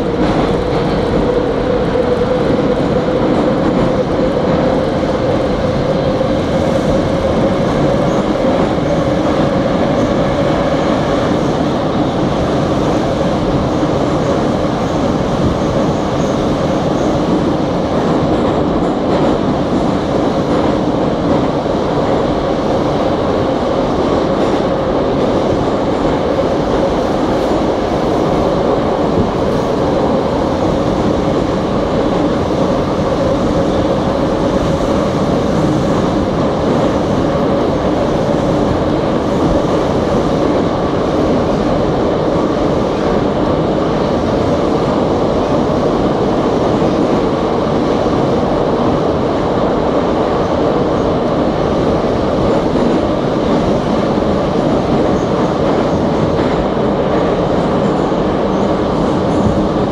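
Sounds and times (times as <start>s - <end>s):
metro train rumbling through tunnel: 0.0s - 59.9s.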